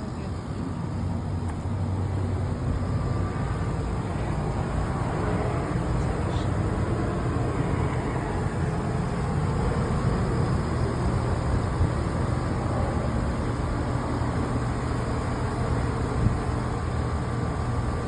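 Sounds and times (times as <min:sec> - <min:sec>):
low compressor hum: 0:00.0 - 0:18.0.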